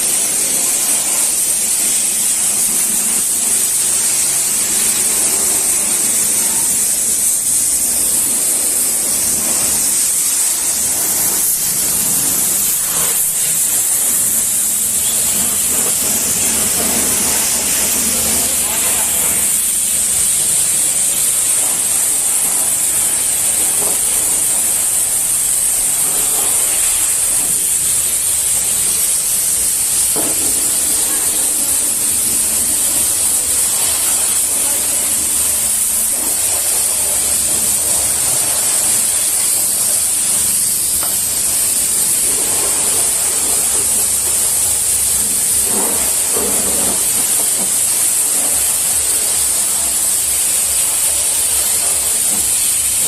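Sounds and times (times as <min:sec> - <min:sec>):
pressure washer spray hissing: 0:00.0 - 0:53.0.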